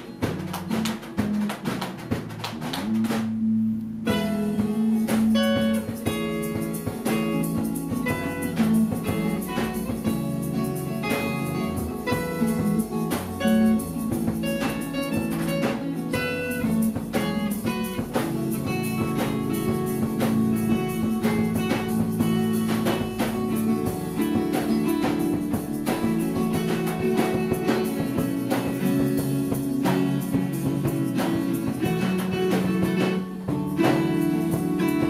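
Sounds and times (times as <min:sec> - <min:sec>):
acoustic guitars strumming: 0:00.0 - 0:35.0
bass: 0:00.0 - 0:35.0
light percussion: 0:00.0 - 0:35.0.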